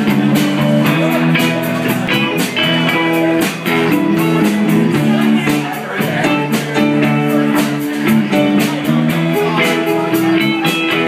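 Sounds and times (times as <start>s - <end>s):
bass guitar: 0.0s - 11.0s
drum and cymbal hits: 0.0s - 11.0s
electric guitars: 0.0s - 11.0s.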